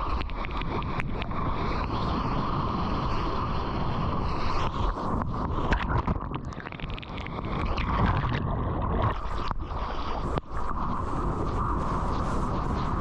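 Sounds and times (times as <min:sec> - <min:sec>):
surf water rushing and splashing: 0:00.0 - 0:13.0
wind noise: 0:00.0 - 0:13.0.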